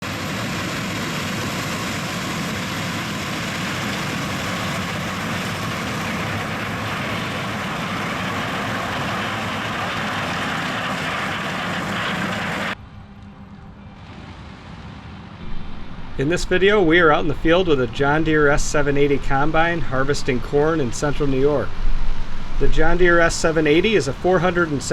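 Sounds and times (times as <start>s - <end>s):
combine harvester running: 0.0s - 24.9s.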